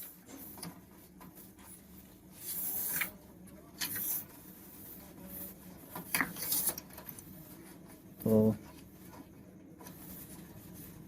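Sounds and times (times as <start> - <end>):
cables rustling and scraping: 0.0 - 11.0.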